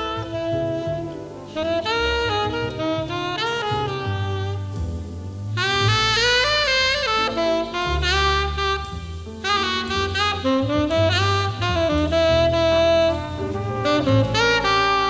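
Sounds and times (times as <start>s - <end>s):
bass line: 0.0s - 15.0s
drum kit: 0.0s - 15.0s
horn melody: 0.0s - 15.0s.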